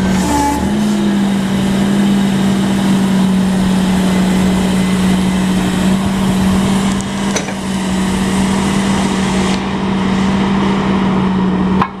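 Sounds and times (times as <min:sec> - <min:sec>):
low hum: 0:00.0 - 0:11.9
forklift engine running: 0:00.0 - 0:12.0.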